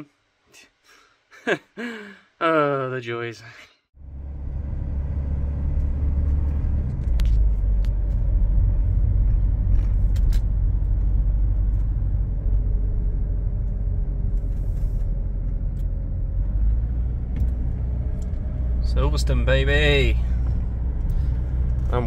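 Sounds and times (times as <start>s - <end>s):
car engine and road noise: 4.0s - 22.0s.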